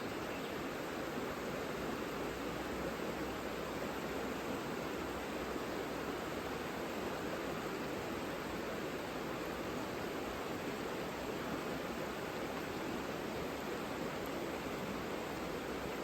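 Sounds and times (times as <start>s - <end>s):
river flowing: 0.0s - 16.0s.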